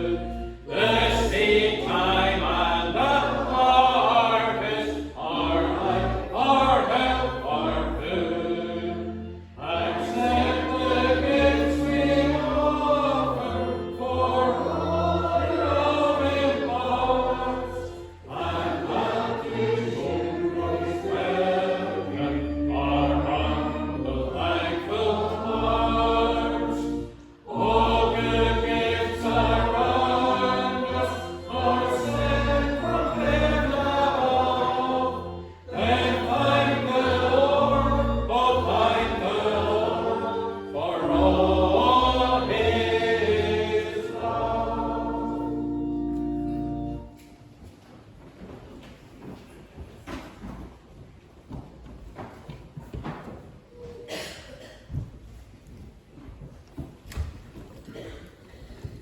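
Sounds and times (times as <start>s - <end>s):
choir singing a hymn: 0.0s - 47.3s
sustained low accompanying notes: 0.0s - 47.6s.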